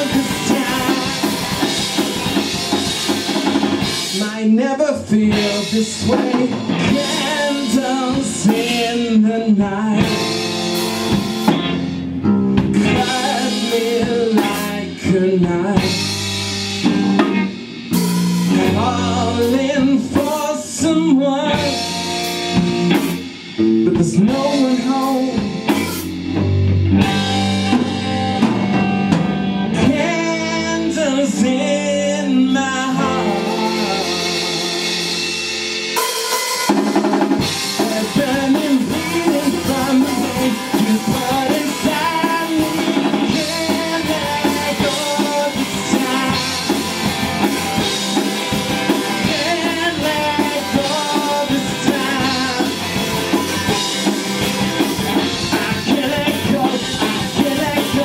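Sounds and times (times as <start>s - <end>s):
drum kit: 0.0s - 58.0s
rock band playing: 0.0s - 58.0s.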